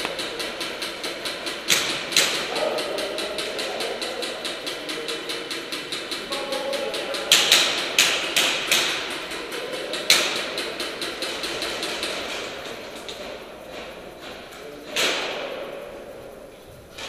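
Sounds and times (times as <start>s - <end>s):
airsoft guns firing: 0.0s - 15.8s.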